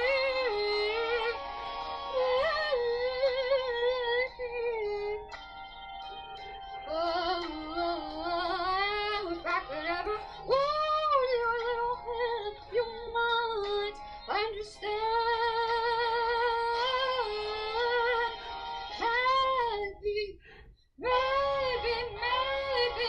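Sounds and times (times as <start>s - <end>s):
woman singing with vibrato: 0.0s - 1.4s, 2.1s - 5.3s, 6.9s - 20.4s, 21.0s - 23.0s.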